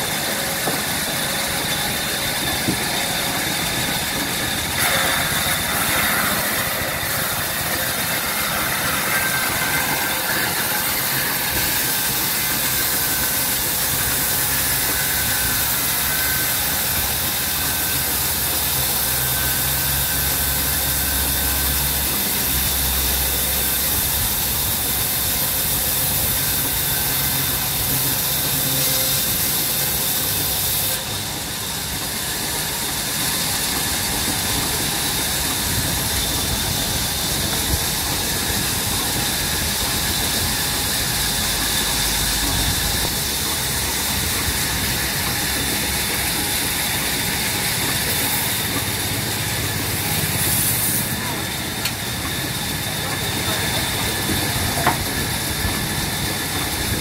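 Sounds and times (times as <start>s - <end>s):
band saw cutting wood: 0.0s - 57.0s
band saw motor humming: 0.0s - 57.0s.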